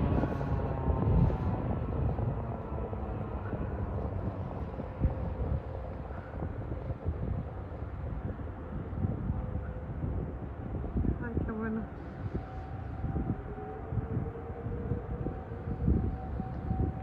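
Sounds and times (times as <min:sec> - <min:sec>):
faint steady siren tone: 0:00.0 - 0:17.0
wind rumble on microphone: 0:00.0 - 0:17.0.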